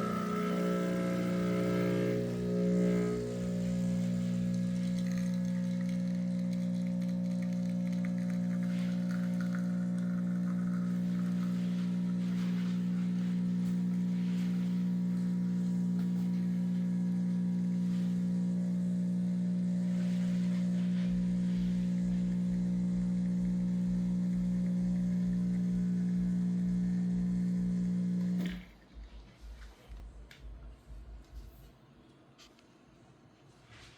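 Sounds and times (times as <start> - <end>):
espresso machine pump humming: 0.0 - 28.7.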